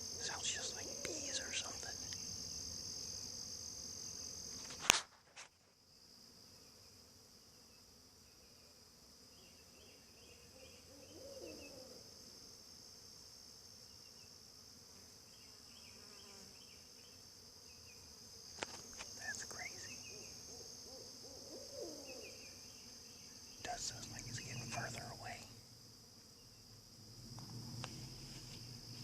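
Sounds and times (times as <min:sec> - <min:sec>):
high-pitched insect trill: 0:00.0 - 0:29.0.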